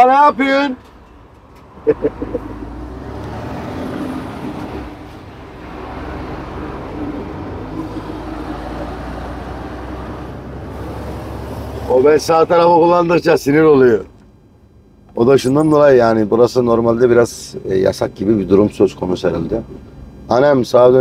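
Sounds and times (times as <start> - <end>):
truck engine drone from cab: 0.0 - 21.0.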